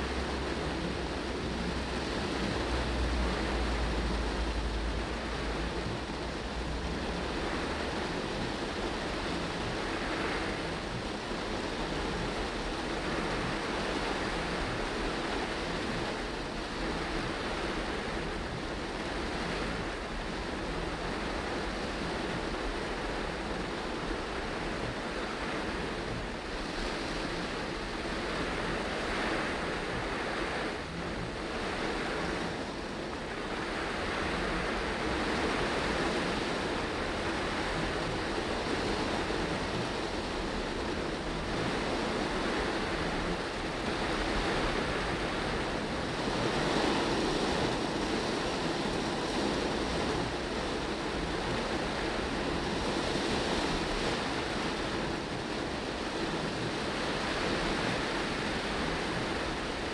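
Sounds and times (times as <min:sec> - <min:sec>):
heavy rain on car roof: 0:00.0 - 0:59.9.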